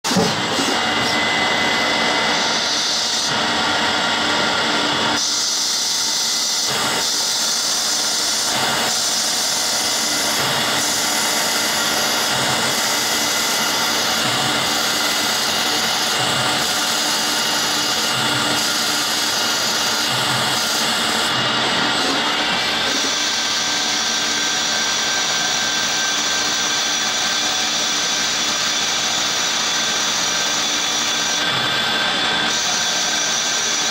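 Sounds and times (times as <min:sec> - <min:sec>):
lathe spindle whine: 0:00.0 - 0:33.9.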